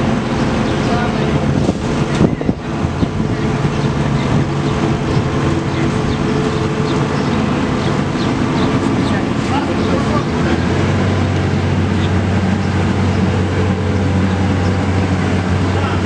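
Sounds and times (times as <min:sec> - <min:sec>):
heavy machinery engine running: 0:00.0 - 0:16.0.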